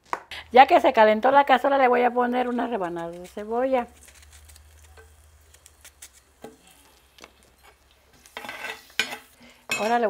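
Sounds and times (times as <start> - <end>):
onion sizzling in hot oil: 0.6 - 10.0.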